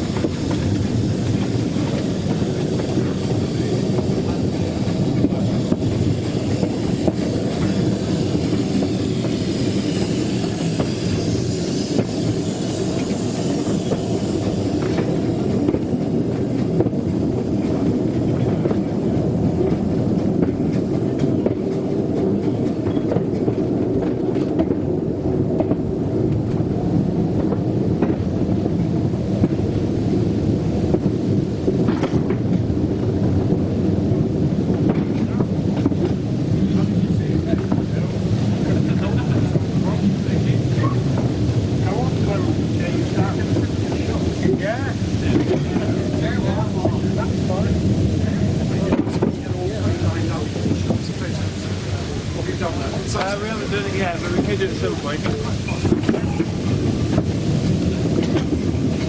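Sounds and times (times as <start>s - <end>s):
high hiss: 0.0s - 23.8s, 34.5s - 59.0s
train wheels rumbling on rail: 0.0s - 59.0s.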